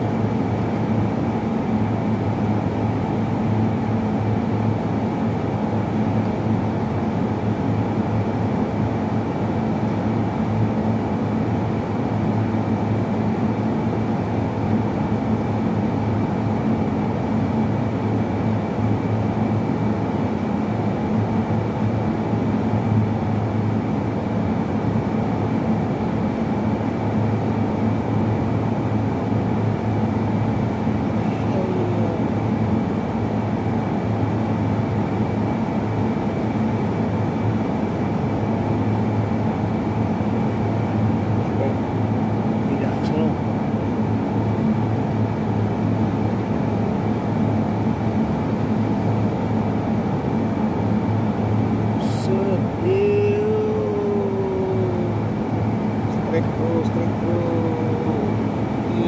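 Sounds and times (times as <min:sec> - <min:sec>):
machine hum with high whine: 0:00.0 - 0:59.0.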